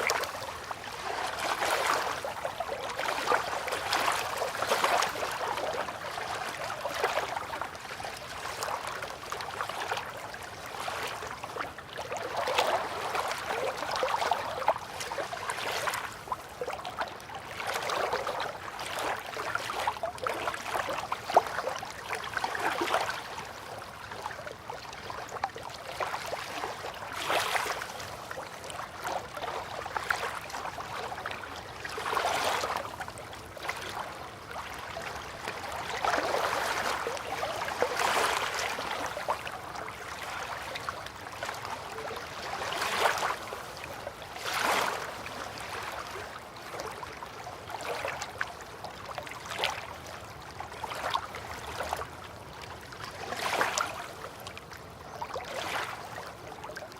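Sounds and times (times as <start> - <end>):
river water lapping: 0.0 - 56.9.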